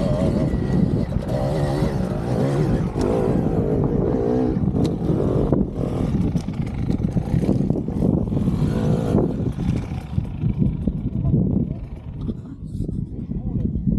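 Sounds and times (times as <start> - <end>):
dirt bike engine revving: 0.0 - 12.4.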